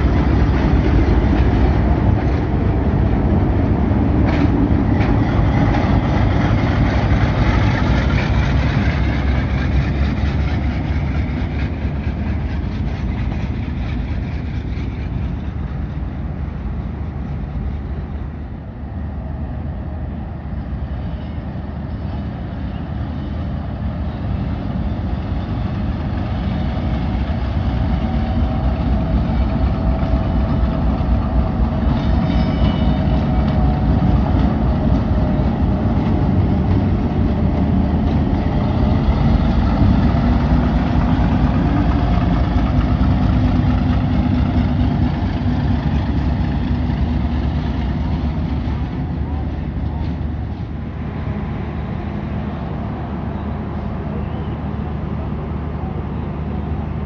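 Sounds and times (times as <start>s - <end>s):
diesel locomotive engine: 0.0s - 57.0s
rumble of train wagons: 0.0s - 57.0s.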